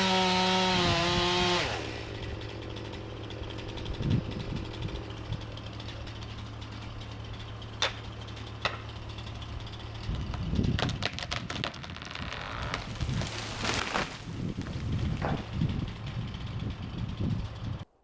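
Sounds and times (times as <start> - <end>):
wood cracking: 0.0 - 16.4
tree falling through branches: 0.0 - 17.8
chainsaw idling: 0.0 - 17.9.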